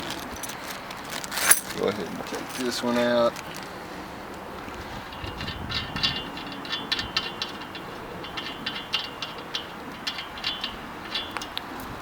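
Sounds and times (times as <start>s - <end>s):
metal tubes clinking and rattling: 0.0s - 12.0s.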